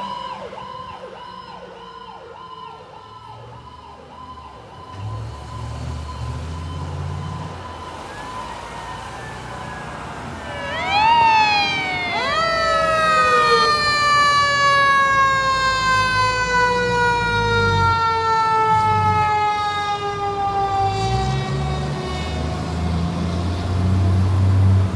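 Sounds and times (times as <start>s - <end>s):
fire engine siren wailing: 0.0s - 24.9s
truck engine rumbling: 3.8s - 24.9s.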